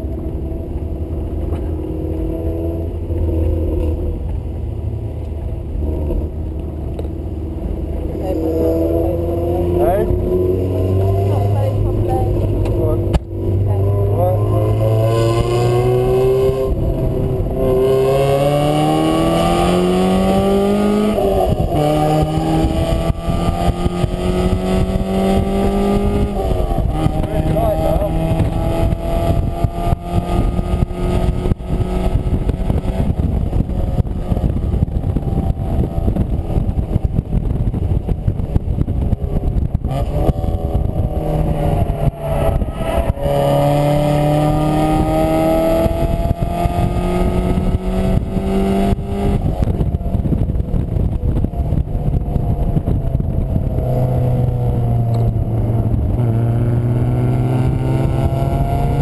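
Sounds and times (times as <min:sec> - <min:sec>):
car engine revving: 0:00.0 - 0:59.0
wind rush: 0:07.2 - 0:59.0.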